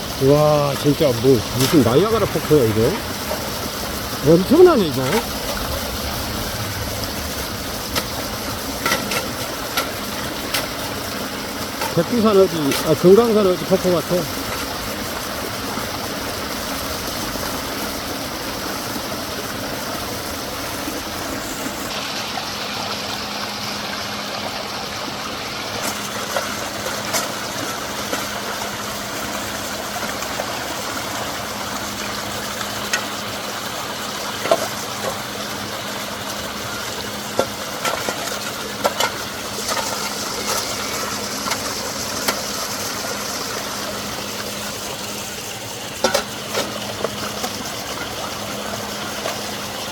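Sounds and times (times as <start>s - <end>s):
water pouring down a waterfall: 0.0s - 49.9s.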